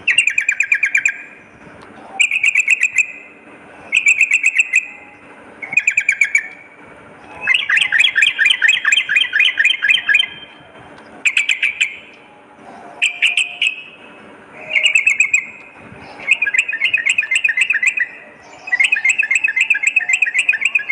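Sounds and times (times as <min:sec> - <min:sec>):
bulbul singing chattering notes: 0:00.0 - 0:01.5, 0:02.2 - 0:20.9.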